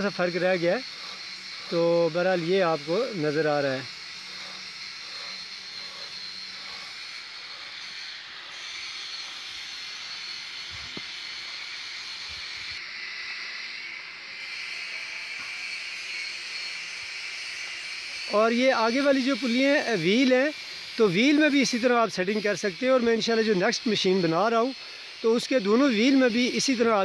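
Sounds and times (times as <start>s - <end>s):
bandsaw mill running: 0.0s - 27.0s.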